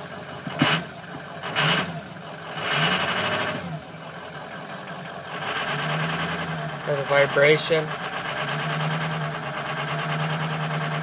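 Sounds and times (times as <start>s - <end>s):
diesel engine idling unevenly: 0.0s - 11.0s.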